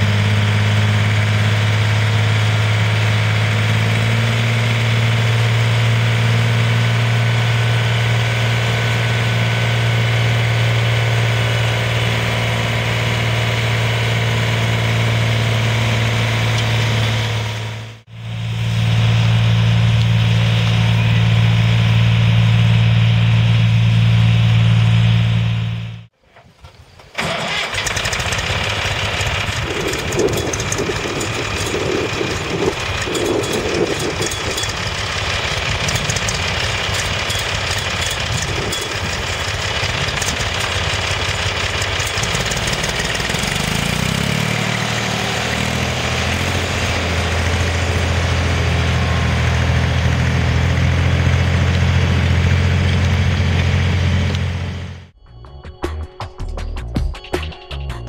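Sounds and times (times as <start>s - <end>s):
tractor diesel engine running: 0.0s - 26.2s, 26.8s - 55.2s.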